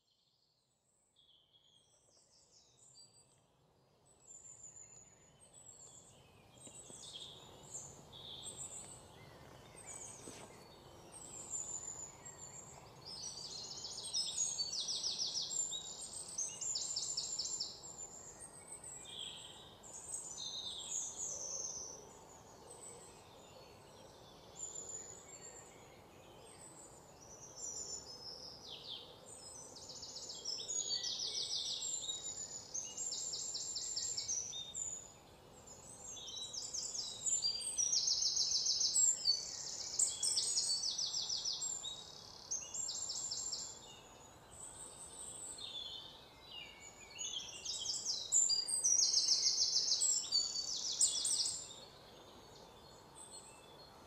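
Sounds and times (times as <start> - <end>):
faint background hiss: 0.0 - 54.0
small birds chirping: 0.0 - 54.0.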